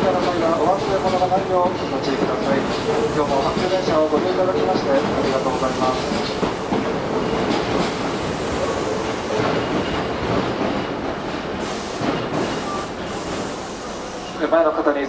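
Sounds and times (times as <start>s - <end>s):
train wheels clattering over rail joints: 0.0s - 13.6s.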